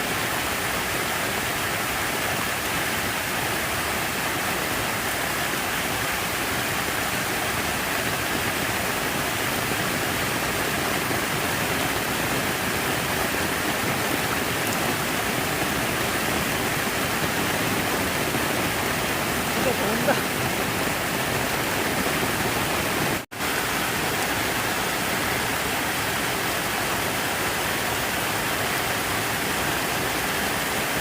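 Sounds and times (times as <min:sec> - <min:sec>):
falling water rushing: 0:00.0 - 0:31.0.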